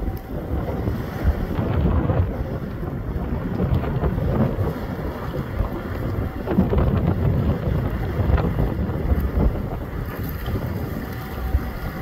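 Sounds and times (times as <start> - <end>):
tugboat engine rumble: 0.0 - 12.0
wind buffeting microphone: 0.0 - 12.0.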